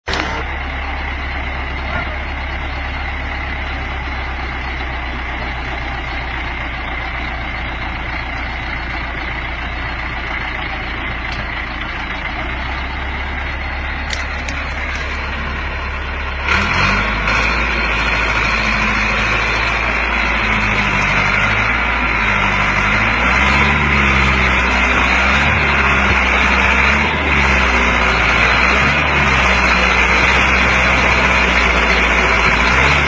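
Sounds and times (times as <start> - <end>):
heavy machine engine drone: 0.0 - 33.0
high engine whine: 0.0 - 33.0.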